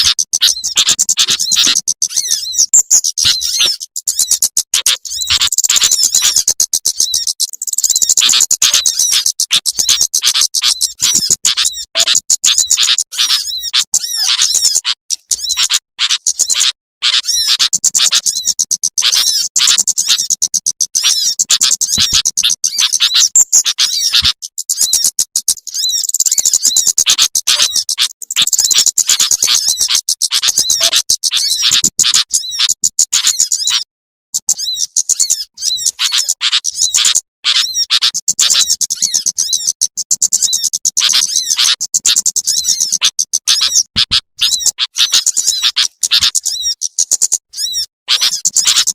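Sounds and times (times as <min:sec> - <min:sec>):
songbirds chirping and trilling: 0:00.0 - 0:48.9.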